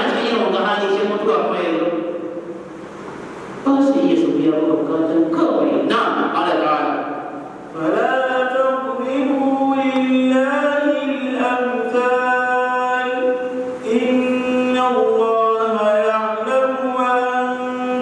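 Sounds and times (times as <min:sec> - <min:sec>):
man chanting recitation: 0:00.0 - 0:02.2, 0:03.7 - 0:18.0.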